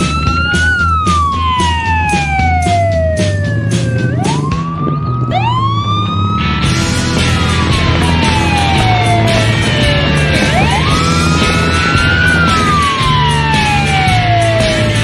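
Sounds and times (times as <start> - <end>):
music with steady beat: 0.0 - 15.0
wailing siren: 0.0 - 15.0.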